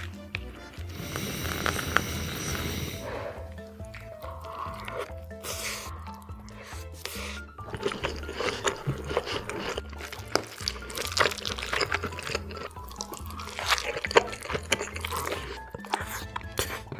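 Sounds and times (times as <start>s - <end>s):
background music with bass line: 0.0s - 16.9s
wet clicky chewing: 0.0s - 16.9s.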